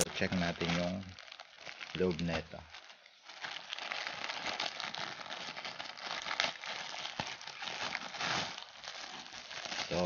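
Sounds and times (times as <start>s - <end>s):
plastic bag crinkling and tearing: 0.0s - 10.0s.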